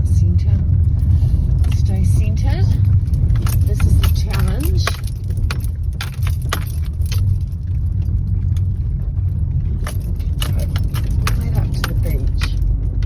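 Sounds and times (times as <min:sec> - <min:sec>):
car road rumble: 0:00.0 - 0:13.0
sharp rattling clicks: 0:01.6 - 0:13.0.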